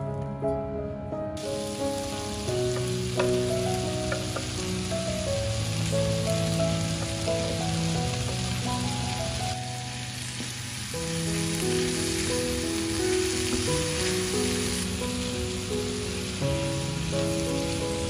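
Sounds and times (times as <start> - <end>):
soft background music: 0.0 - 18.0
food sizzling in a frying pan: 1.4 - 18.0.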